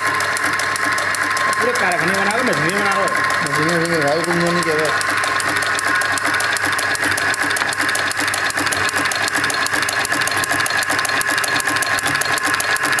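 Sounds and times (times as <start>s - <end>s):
machine mechanical clatter: 0.0s - 13.0s
motor whine: 0.0s - 13.0s.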